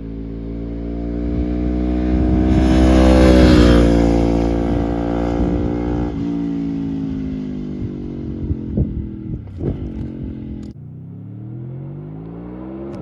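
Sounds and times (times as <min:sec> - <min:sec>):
motorcycle passing by: 0:00.0 - 0:13.0.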